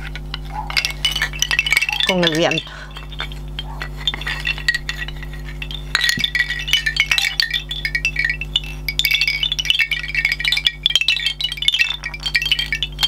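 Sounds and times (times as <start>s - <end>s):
bamboo wind chime clacking: 0.0s - 13.0s.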